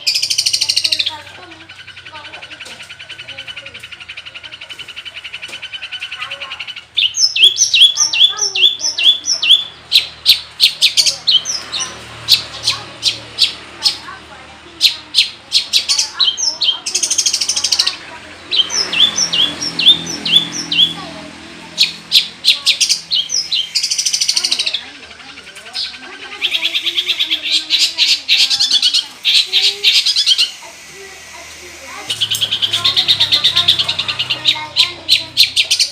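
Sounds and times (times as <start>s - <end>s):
bird chattering song: 0.0s - 35.9s.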